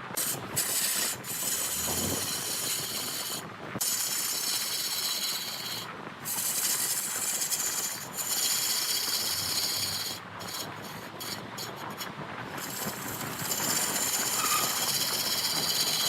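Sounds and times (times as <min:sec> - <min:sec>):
tool scraping spinning wood: 0:00.0 - 0:16.0.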